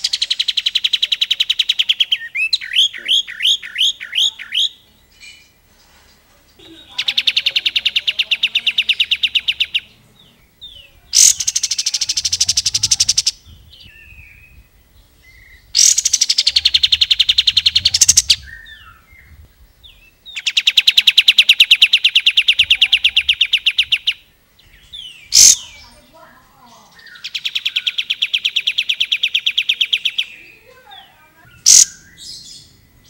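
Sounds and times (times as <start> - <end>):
bird singing rapid rattling phrases: 0.0 - 33.0.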